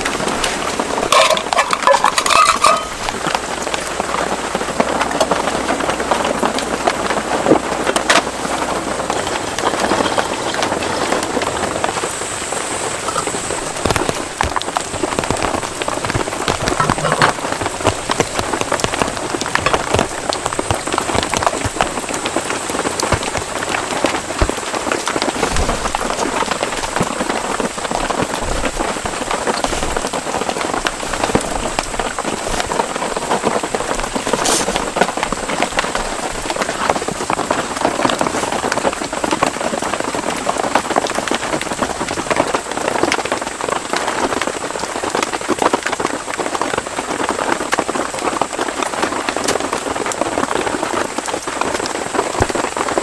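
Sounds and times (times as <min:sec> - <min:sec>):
rain on tent fabric: 0:00.0 - 0:53.0.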